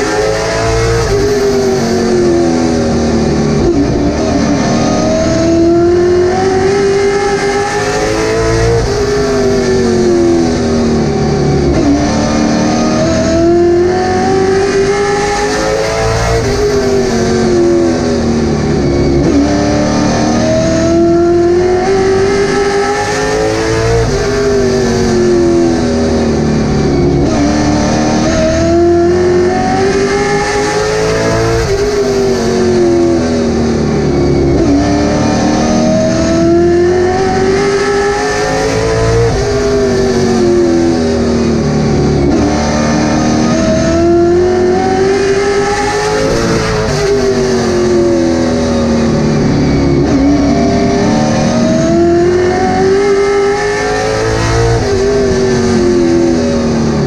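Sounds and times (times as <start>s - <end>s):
race car engine at speed: 0.0s - 57.0s.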